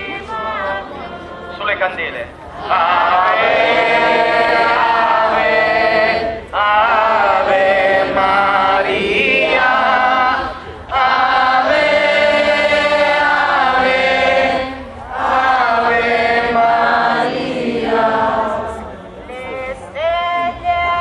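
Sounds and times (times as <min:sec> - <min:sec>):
crowd singing a hymn: 0:00.0 - 0:21.0.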